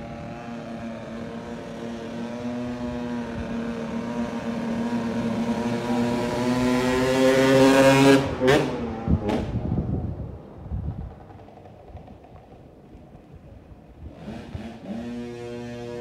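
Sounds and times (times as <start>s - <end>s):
two-stroke motocross bike engine: 0.0s - 13.2s, 13.9s - 16.0s.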